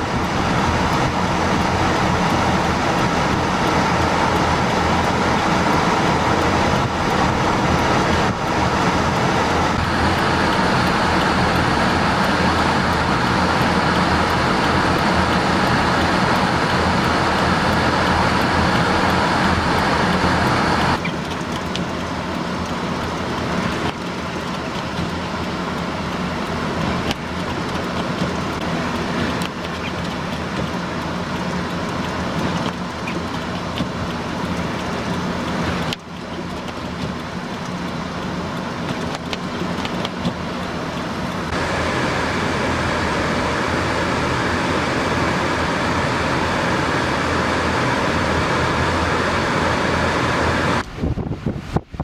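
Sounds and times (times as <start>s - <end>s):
engine low hum: 0.0s - 52.0s.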